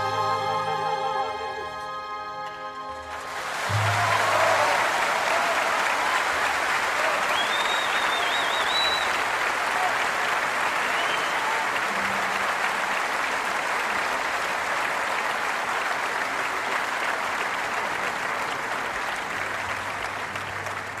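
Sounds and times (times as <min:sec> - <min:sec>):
large audience applauding: 0:03.0 - 0:21.0.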